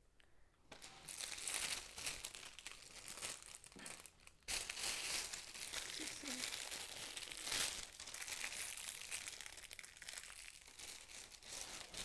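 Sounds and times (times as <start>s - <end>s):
plastic piping bag crinkling: 0.7s - 12.0s.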